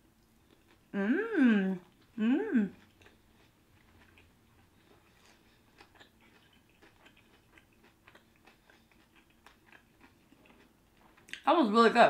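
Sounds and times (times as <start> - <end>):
faint chewing: 0.2 - 1.0, 1.8 - 11.5.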